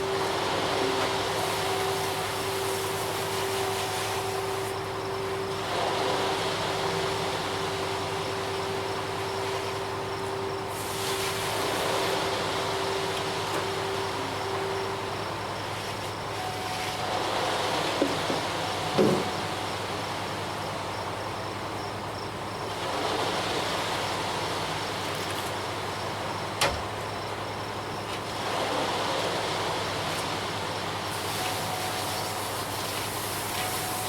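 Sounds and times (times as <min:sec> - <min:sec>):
truck diesel engine running: 0:00.0 - 0:23.0, 0:29.3 - 0:34.0.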